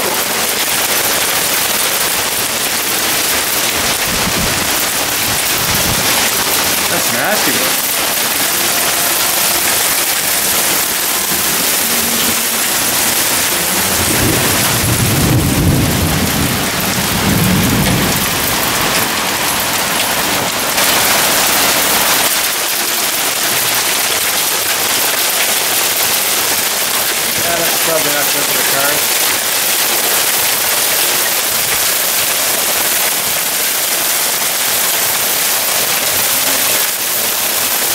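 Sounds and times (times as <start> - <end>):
hail and rain pelting deck and grill: 0.0 - 37.9.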